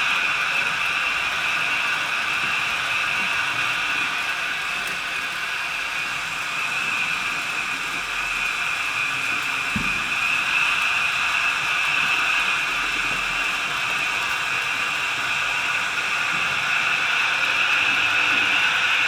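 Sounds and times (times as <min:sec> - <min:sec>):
model train motors whirring: 0:00.0 - 0:19.0.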